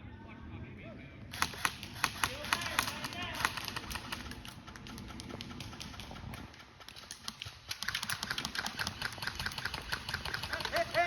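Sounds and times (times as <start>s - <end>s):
airsoft guns firing: 1.3s - 11.0s.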